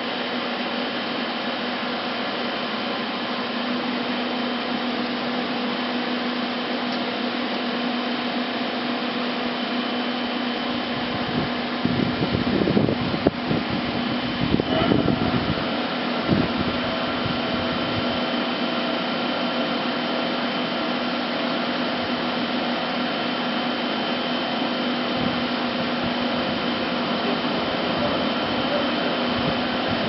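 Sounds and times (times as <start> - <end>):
lathe machine hum: 0.0 - 30.0.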